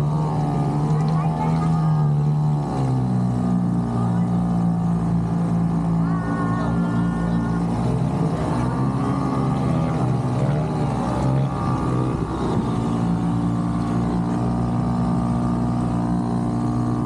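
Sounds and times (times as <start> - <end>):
bumper boat engines running: 0.0 - 17.0.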